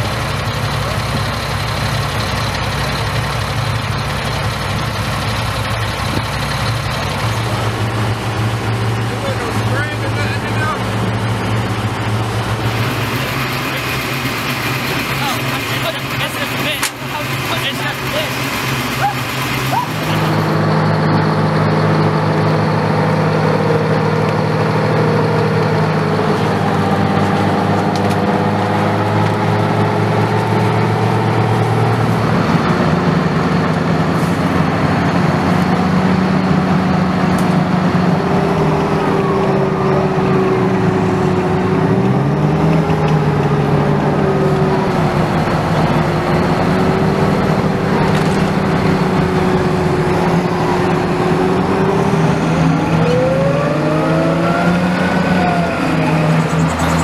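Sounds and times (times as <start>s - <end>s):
tracked military vehicle engines running: 0.0s - 57.0s.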